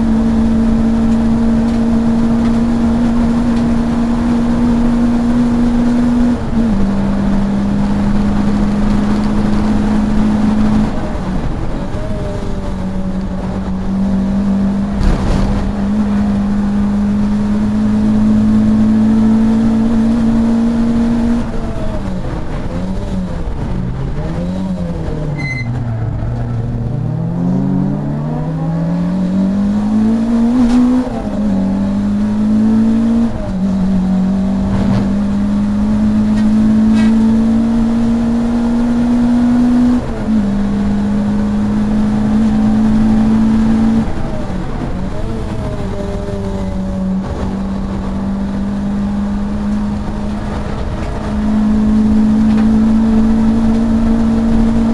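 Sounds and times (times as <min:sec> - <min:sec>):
gear changes: 0:00.0 - 0:54.9
race car engine revving: 0:00.0 - 0:54.9.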